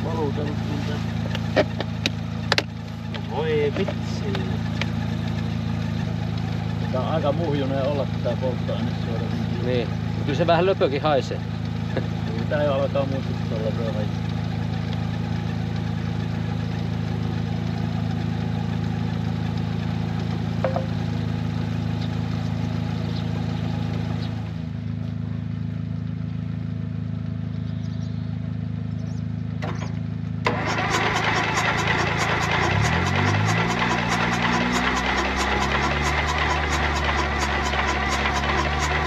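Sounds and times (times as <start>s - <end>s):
tractor diesel engine idling: 0.0s - 39.0s.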